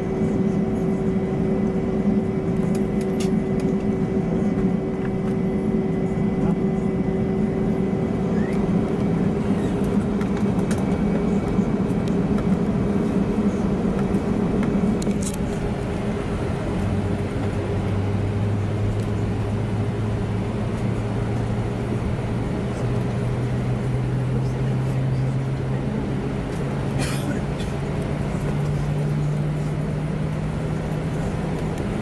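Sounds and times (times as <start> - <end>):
jet engines humming in cabin: 0.0 - 32.0.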